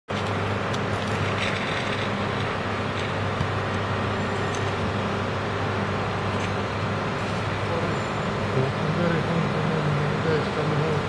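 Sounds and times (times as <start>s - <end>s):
electric train rumbling: 0.2s - 11.0s.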